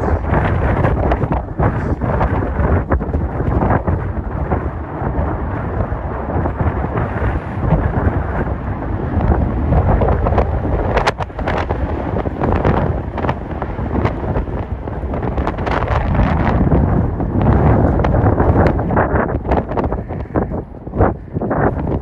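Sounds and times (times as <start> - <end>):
jet engine roar: 0.0 - 22.0
wind buffeting microphone: 0.0 - 22.0.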